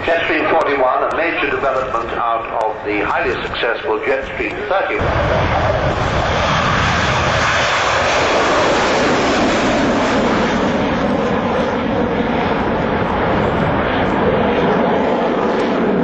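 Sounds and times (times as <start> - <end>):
turboprop airliner flying past: 0.0 - 16.0.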